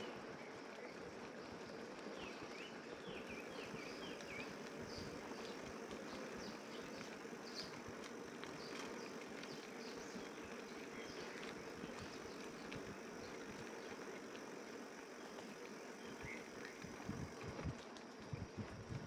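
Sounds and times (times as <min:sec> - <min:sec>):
insects humming: 0:00.0 - 0:19.0.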